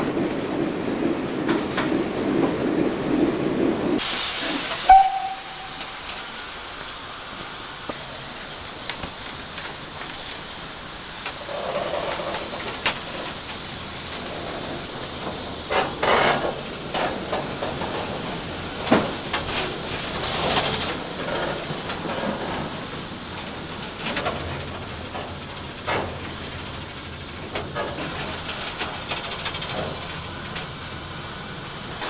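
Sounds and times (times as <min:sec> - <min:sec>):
steam locomotive hissing: 0:02.3 - 0:32.0.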